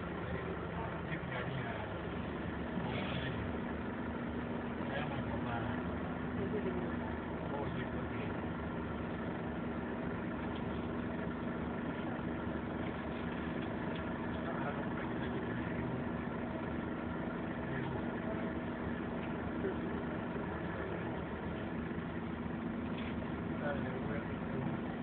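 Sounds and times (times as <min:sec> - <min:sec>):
bus engine idling: 0:00.0 - 0:25.0.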